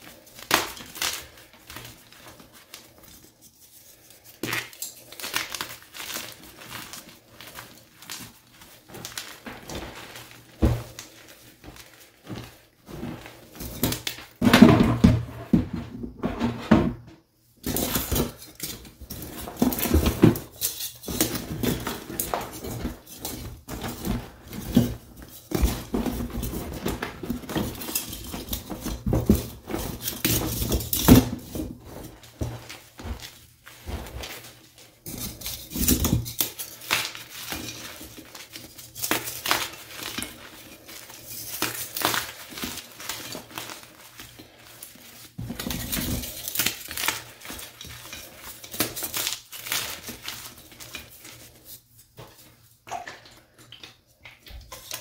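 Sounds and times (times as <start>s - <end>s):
chalk blocks crunching in hands: 0.0s - 14.4s, 17.7s - 52.0s.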